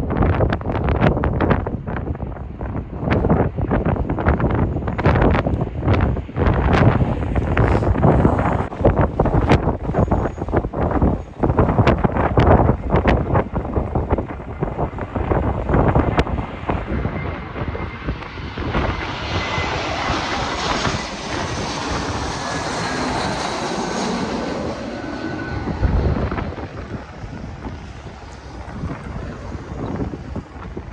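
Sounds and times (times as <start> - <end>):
jet airliner passing: 0.0 - 30.9
wind buffeting microphone: 0.0 - 30.9.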